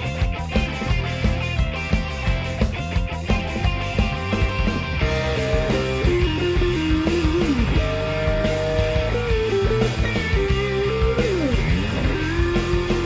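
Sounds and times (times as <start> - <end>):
upbeat rock music with guitar: 0.0 - 13.0.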